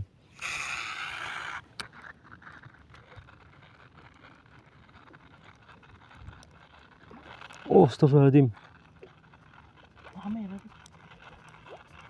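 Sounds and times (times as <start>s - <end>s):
fishing reel click: 0.3s - 12.0s
fishing reel ticking: 0.3s - 12.0s.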